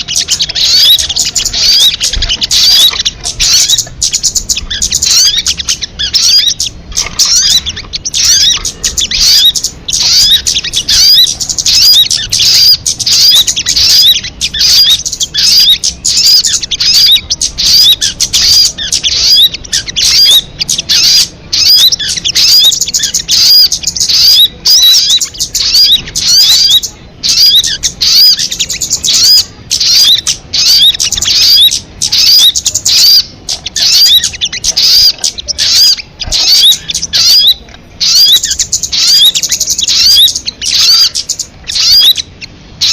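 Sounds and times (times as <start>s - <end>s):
rapid high bird chirps: 0.0s - 42.9s.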